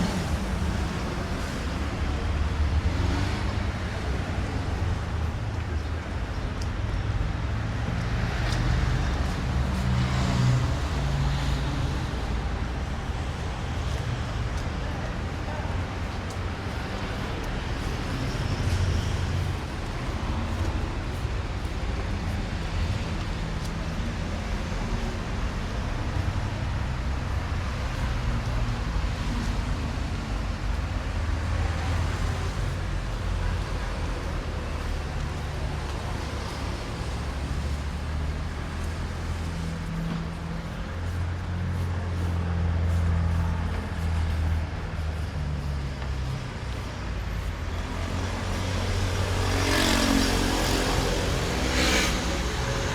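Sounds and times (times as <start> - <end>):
road traffic rumble: 0.0 - 52.9.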